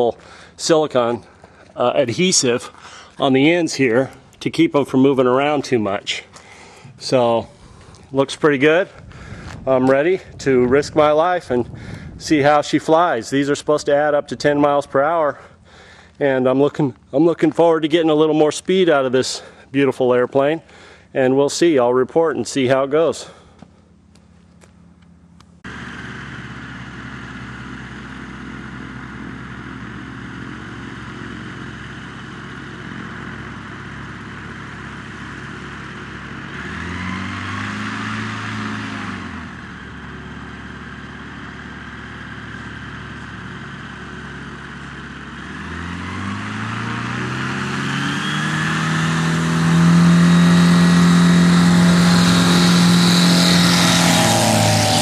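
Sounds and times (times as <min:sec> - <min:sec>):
aircraft engine and propeller: 0:00.0 - 0:13.9, 0:22.5 - 0:55.0.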